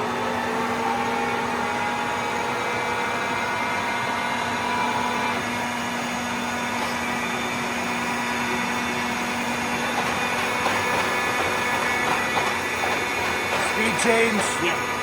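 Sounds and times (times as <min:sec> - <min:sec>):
milling machine motor hum: 0:00.0 - 0:15.0.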